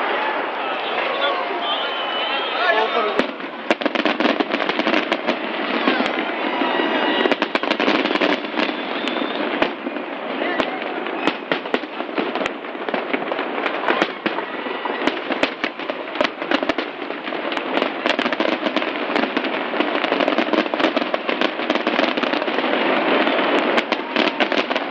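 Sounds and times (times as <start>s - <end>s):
fireworks crackling: 0.0s - 24.9s.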